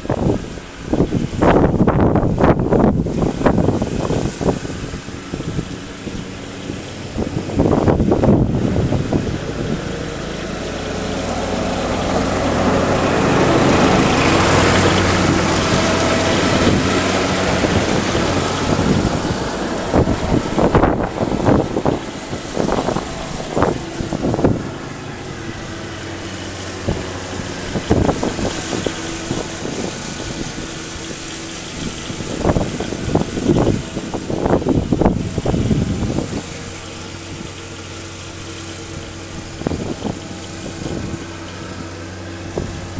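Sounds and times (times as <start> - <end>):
riding lawn mower engine: 0.0 - 42.9.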